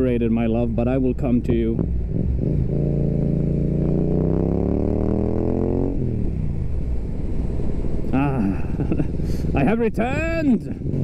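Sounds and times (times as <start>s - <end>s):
motorcycle engine accelerating: 1.3s - 11.0s.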